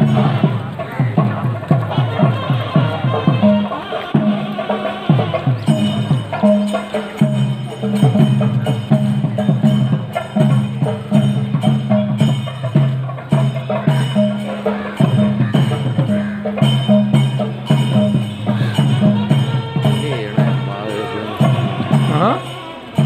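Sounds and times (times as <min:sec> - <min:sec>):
rhythmic percussion: 0:00.0 - 0:23.0.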